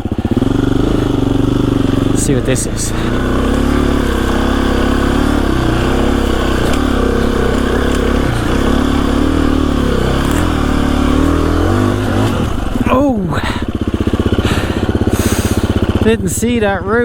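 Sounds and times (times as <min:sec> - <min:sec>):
dirt bike engine at low revs: 0:00.0 - 0:17.0.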